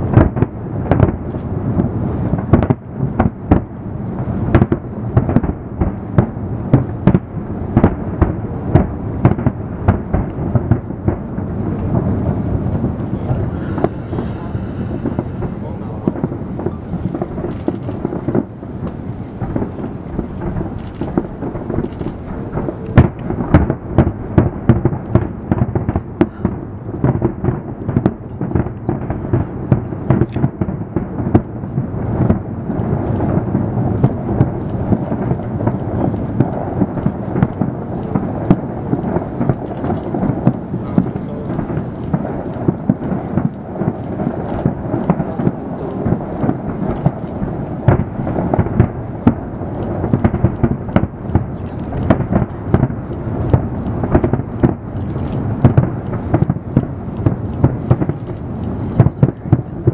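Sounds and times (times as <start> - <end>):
sharp loud firework bang: 0.0 - 58.2
fireworks booms and crackles: 0.0 - 59.9.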